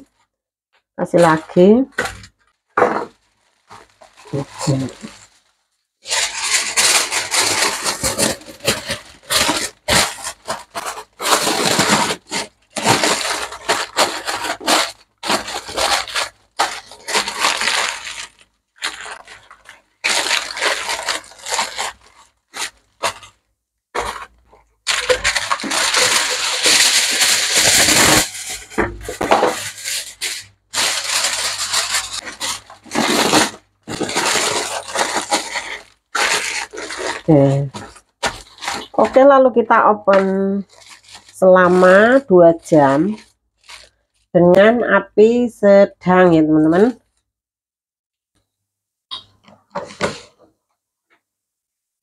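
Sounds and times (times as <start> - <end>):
aluminium foil crinkling: 1.2 - 44.3, 49.1 - 50.4.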